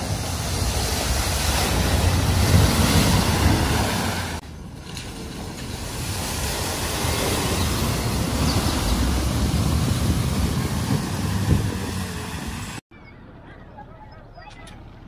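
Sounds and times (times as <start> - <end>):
van splashing through water: 0.0 - 12.8.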